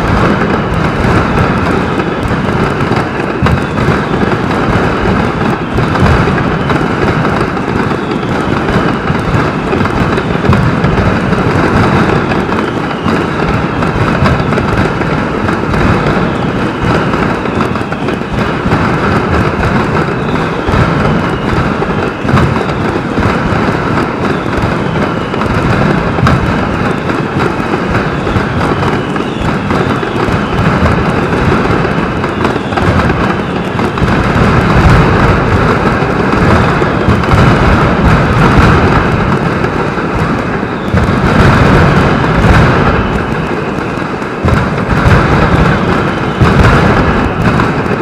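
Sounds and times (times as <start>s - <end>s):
firecrackers exploding rapidly: 0.0s - 48.0s.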